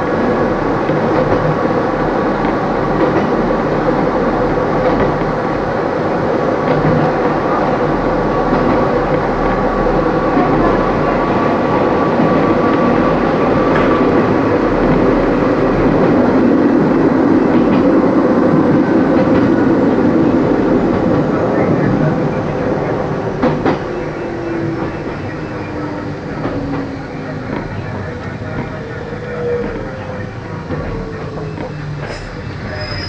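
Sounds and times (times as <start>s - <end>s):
train wheels running on rails: 0.0s - 33.0s.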